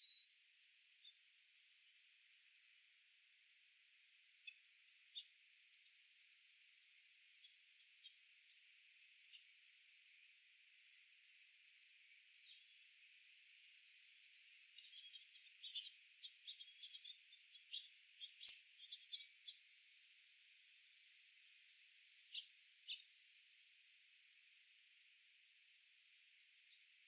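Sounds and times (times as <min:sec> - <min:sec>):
faint steady hiss: 0:00.0 - 0:27.0
songbirds chirping: 0:00.0 - 0:27.0.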